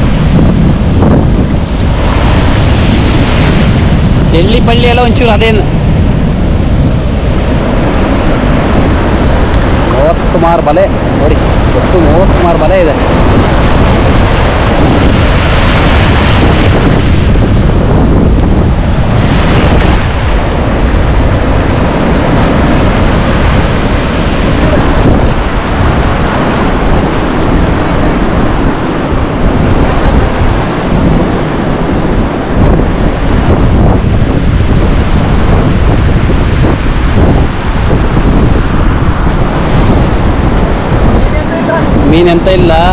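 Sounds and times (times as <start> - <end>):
surf breaking on a shore: 0.0 - 42.9
wind buffeting the microphone: 0.0 - 42.9.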